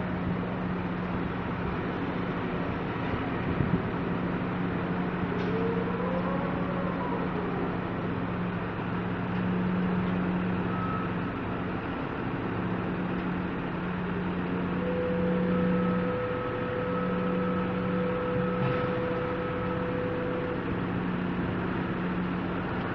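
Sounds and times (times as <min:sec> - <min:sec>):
heavy machinery drone: 0:00.0 - 0:22.9
high steady whine: 0:00.0 - 0:22.9.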